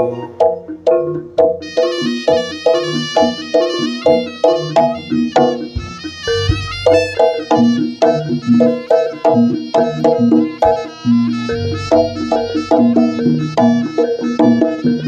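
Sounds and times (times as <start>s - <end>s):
low drum beats: 0.0s - 15.0s
metallophone strikes: 0.0s - 15.0s.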